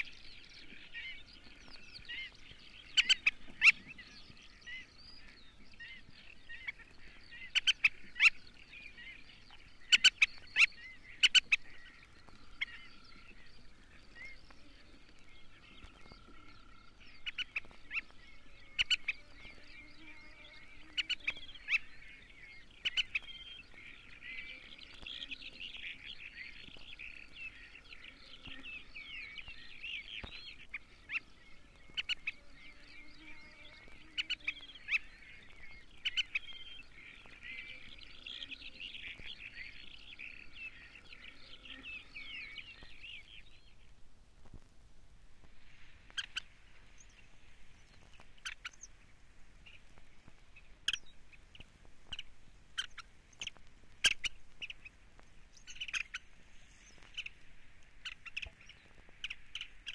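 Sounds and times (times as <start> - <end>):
birds chattering in chorus: 0.0 - 44.0, 45.4 - 59.9.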